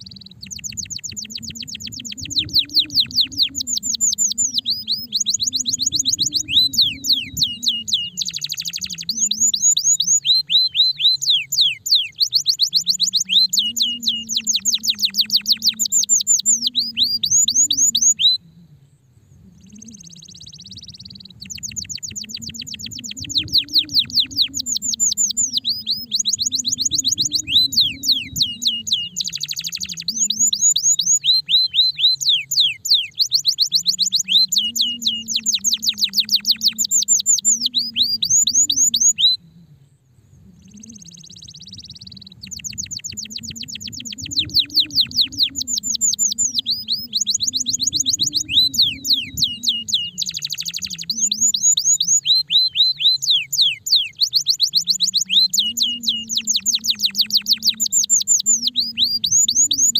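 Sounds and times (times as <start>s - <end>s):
canary singing trills: 0.0s - 18.5s, 19.4s - 39.5s, 40.4s - 59.9s.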